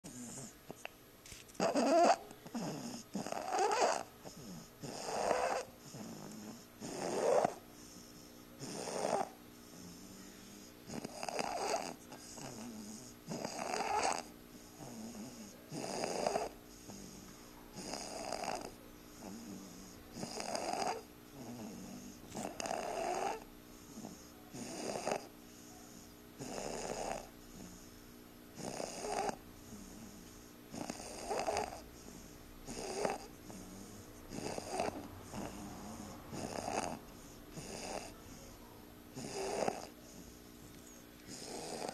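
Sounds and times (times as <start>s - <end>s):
baby snoring: 0.0s - 0.9s, 1.6s - 25.3s, 26.0s - 28.0s, 28.6s - 41.9s.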